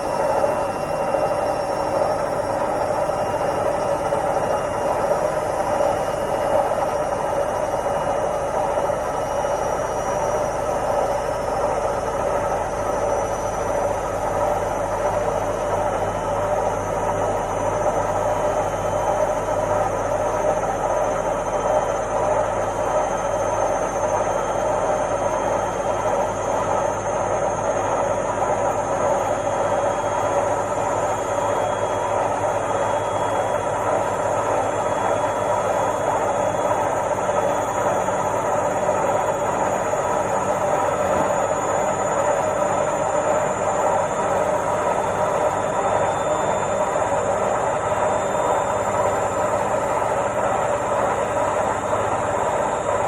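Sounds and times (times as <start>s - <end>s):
washing machine running: 0.0s - 53.0s.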